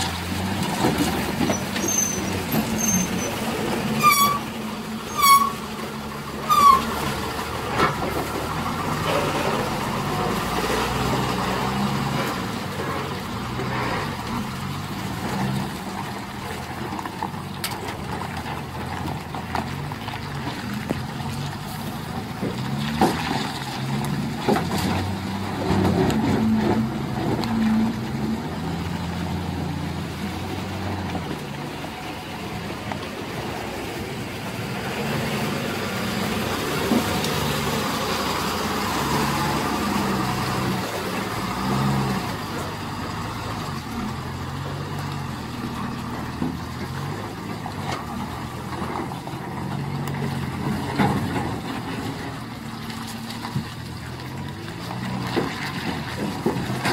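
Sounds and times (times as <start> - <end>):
truck diesel engines labouring: 0.0 - 56.9.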